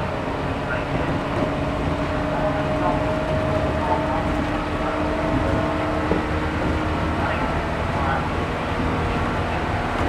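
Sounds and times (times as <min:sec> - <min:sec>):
train running gear hum: 0:00.0 - 0:10.0
wheel-on-rail rumble: 0:00.0 - 0:10.0.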